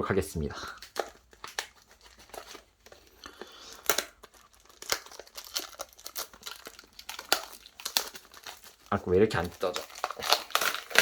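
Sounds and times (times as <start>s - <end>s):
plastic wrapping crinkling and tearing: 0.1s - 11.0s.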